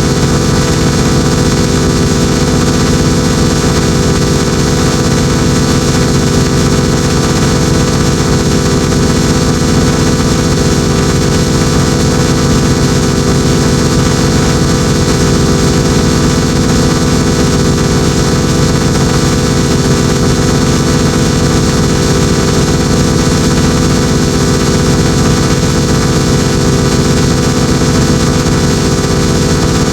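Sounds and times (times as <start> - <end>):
fast buzzing pulse: 0.0 - 29.9
harsh wall of noise: 0.0 - 29.9.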